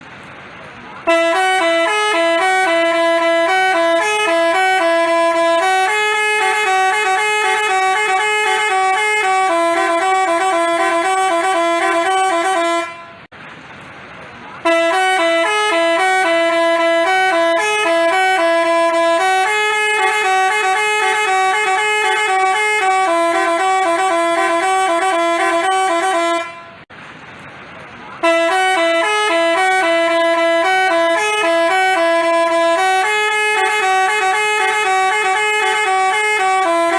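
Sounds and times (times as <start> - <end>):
bus horn playing a tune: 1.0 - 13.3, 14.6 - 26.9, 28.2 - 36.9.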